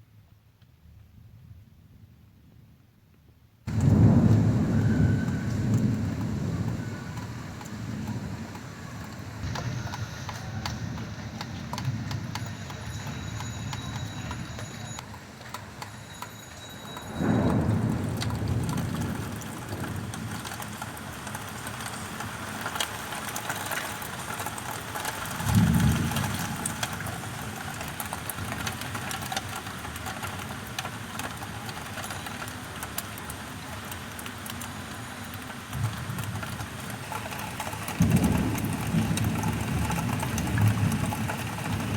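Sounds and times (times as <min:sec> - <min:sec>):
raindrops pattering on surfaces: 0:03.6 - 0:41.9
heavy rain falling: 0:03.7 - 0:41.9.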